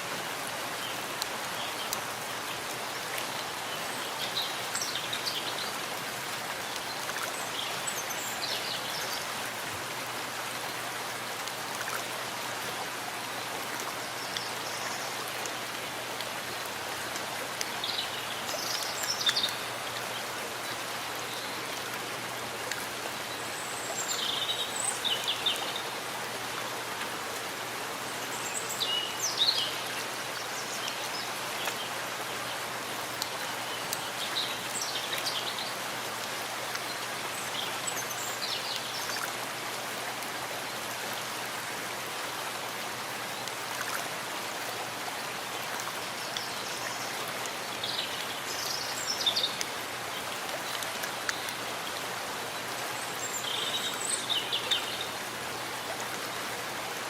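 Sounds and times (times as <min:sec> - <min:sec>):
rain in a forest: 0:00.0 - 0:57.0.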